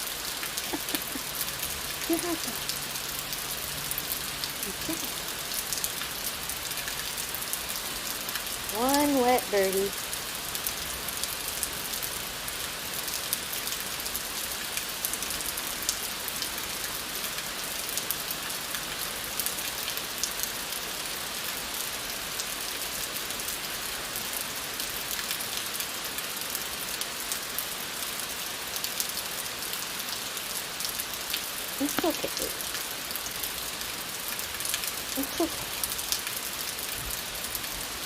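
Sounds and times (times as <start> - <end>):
rain on a hard surface: 0.0 - 38.0.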